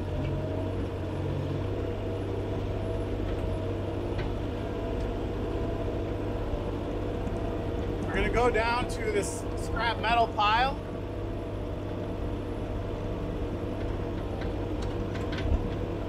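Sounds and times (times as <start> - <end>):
excavator diesel engine droning: 0.0 - 16.0.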